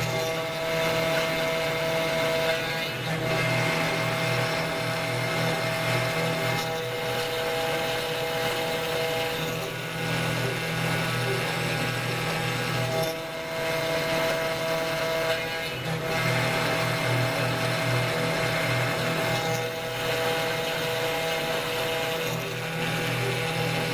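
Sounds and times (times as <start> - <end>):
bit cutting acrylic: 0.0 - 23.9
router spindle whining: 0.0 - 23.9.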